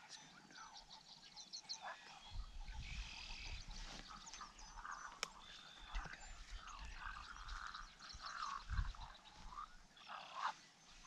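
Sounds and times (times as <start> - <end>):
wildlife chirps and croaks: 0.0 - 11.0.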